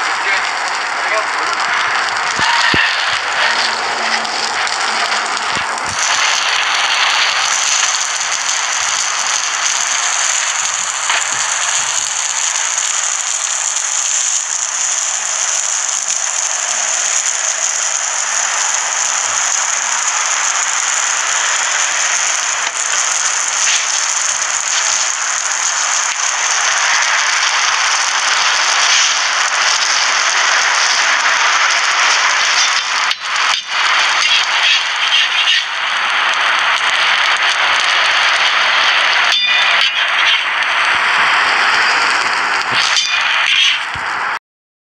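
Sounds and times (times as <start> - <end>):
bread sizzling on griddle: 0.0 - 44.4.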